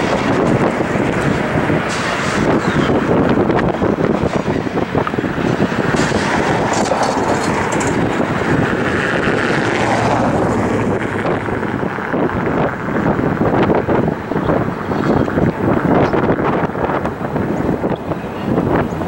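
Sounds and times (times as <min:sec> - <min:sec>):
diesel locomotive engine running: 0:00.0 - 0:19.0
wind buffeting microphone: 0:00.0 - 0:19.0.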